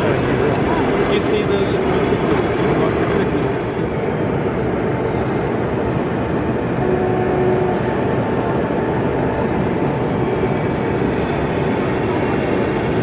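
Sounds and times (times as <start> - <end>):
busy exhibition hall noise: 0.0 - 13.0
model train running: 0.0 - 13.0.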